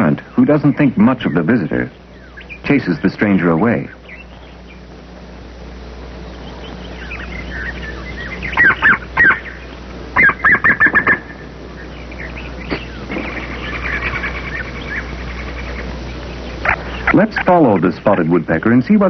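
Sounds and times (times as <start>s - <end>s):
woodpeckers calling: 0.0s - 19.0s.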